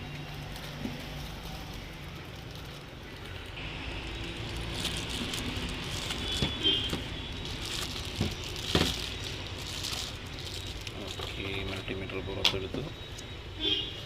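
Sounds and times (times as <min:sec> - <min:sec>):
packaging rustling: 0:00.2 - 0:11.9.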